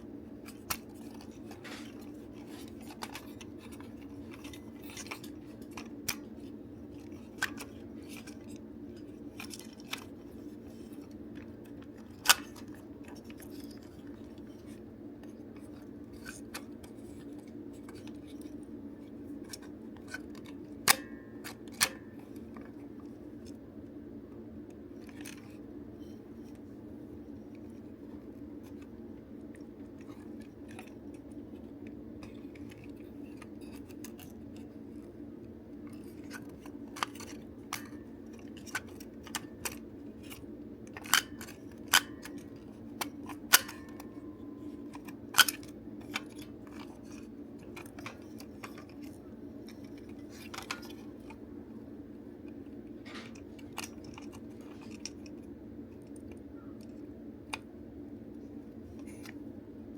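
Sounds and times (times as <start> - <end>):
plastic parts clicking: 0.4 - 23.6, 25.0 - 25.6, 27.5 - 35.2, 35.8 - 51.4, 52.4 - 57.7.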